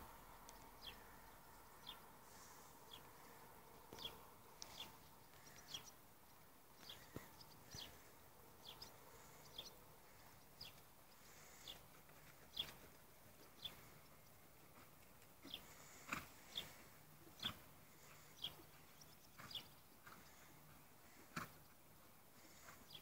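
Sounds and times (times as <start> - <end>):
small bird chirping: 0.4 - 14.4, 15.4 - 21.8.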